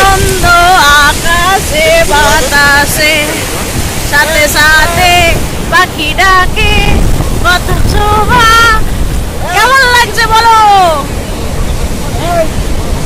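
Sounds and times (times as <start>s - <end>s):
sea surf breaking: 0.0s - 13.0s
wind buffeting microphone: 0.0s - 13.0s.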